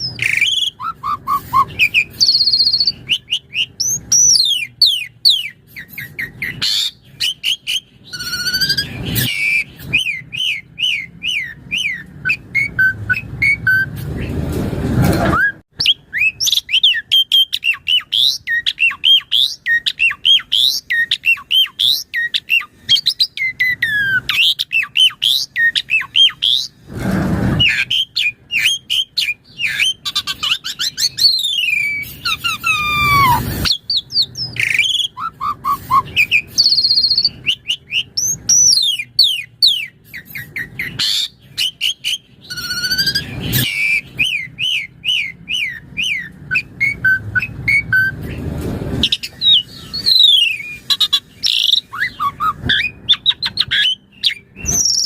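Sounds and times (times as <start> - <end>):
harsh bird squawks: 0.0 - 14.3, 15.4 - 26.8, 27.5 - 48.1, 49.0 - 55.0
starling singing chirps and whistles: 0.0 - 14.3, 15.4 - 26.8, 27.5 - 48.4, 49.0 - 55.0.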